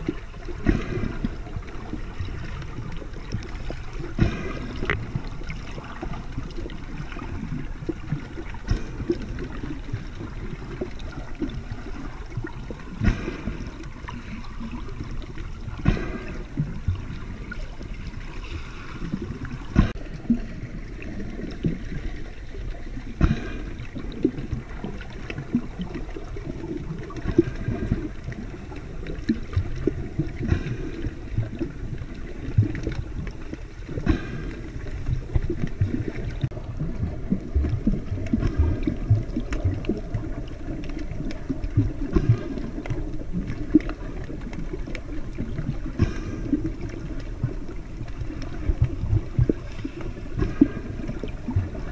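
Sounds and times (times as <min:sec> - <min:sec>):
underwater clicks and knocks: 0:00.0 - 0:22.3, 0:23.0 - 0:51.9
muffled underwater churning rumble: 0:00.0 - 0:51.9.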